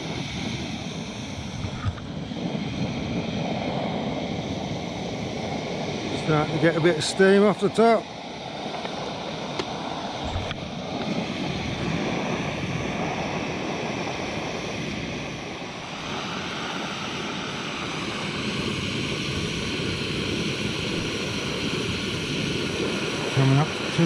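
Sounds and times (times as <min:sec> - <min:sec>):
gas burner burning: 0:00.0 - 0:24.0.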